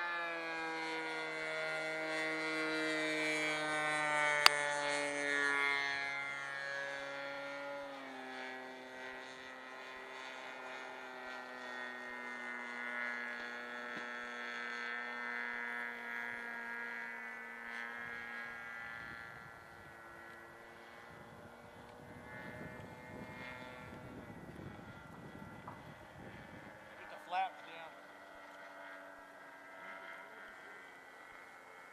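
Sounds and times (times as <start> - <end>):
model airplane motor droning: 0.0 - 31.9.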